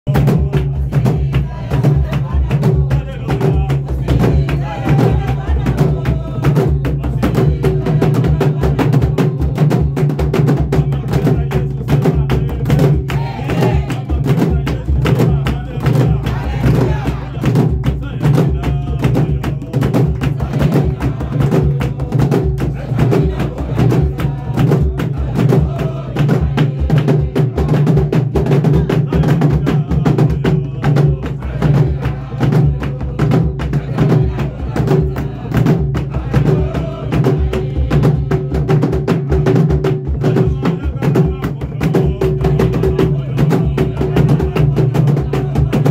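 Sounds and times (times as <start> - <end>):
group of voices singing: 0.1 - 45.9
hand drums: 0.1 - 45.9.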